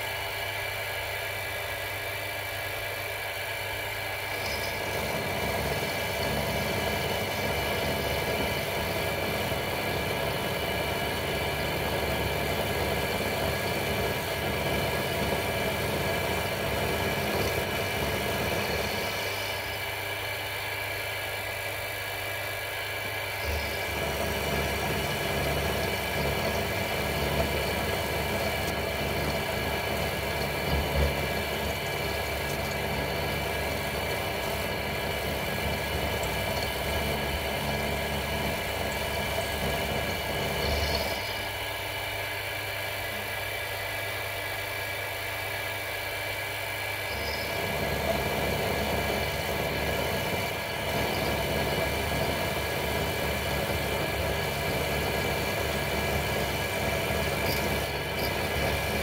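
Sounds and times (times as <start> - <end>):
mill motor whine: 0.0 - 59.0
end mill cutting metal: 3.3 - 21.4, 22.5 - 43.6, 46.0 - 59.0.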